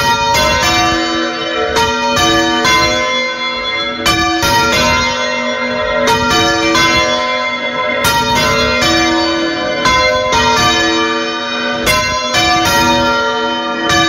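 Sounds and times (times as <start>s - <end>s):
church bells clanging: 0.0s - 14.0s.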